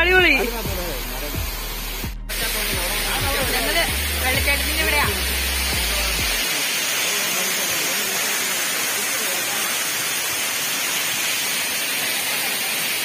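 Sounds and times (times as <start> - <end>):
waterfall pouring onto rocks: 0.0 - 13.0.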